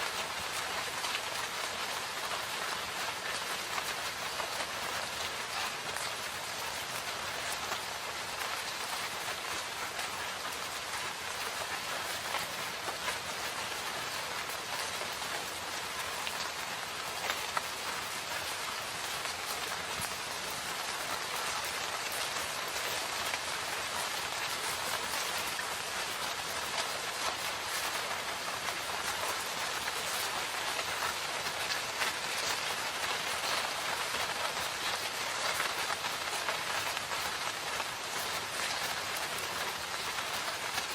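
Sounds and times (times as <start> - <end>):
rain falling in a forest: 0.0 - 40.9
raindrops ticking on surfaces: 0.0 - 40.9.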